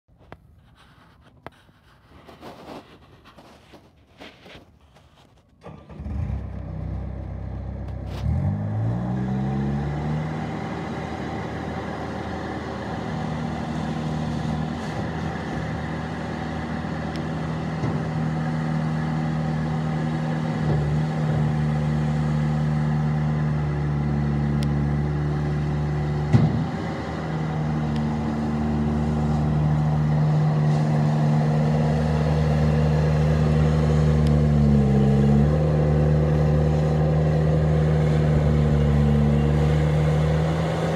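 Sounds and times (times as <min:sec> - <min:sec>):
diesel engine starting and running: 0:02.1 - 0:40.9.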